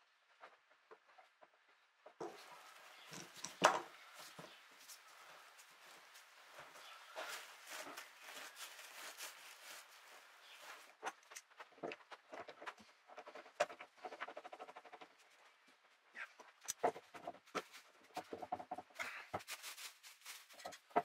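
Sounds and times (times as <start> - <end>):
soft rustle: 0.2 - 21.0.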